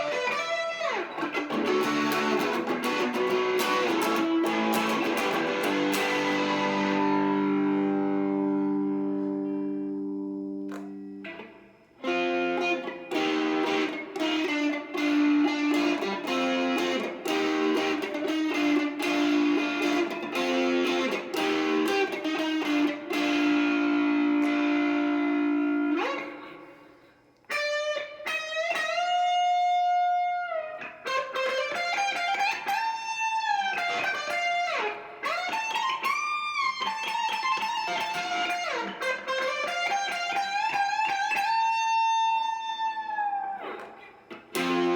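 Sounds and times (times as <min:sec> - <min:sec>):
electric guitar riff and lead: 0:00.0 - 0:44.9.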